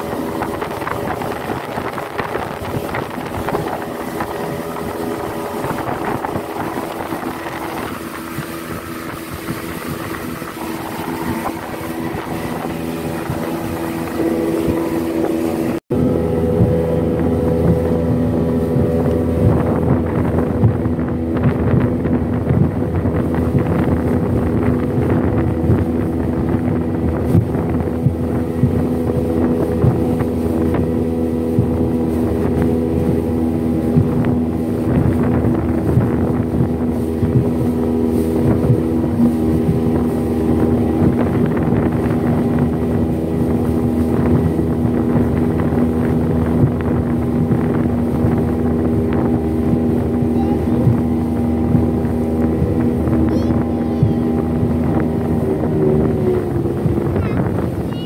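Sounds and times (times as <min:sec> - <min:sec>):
outboard motor running: 0:00.0 - 0:58.0
rushing wind and water: 0:00.0 - 0:58.0.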